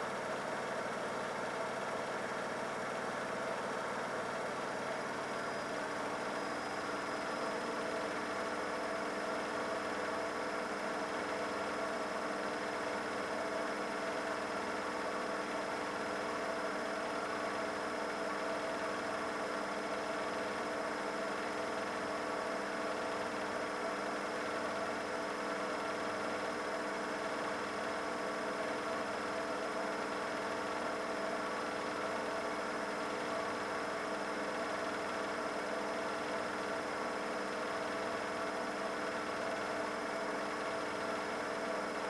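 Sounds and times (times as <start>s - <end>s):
washing machine spinning: 0.0s - 42.0s.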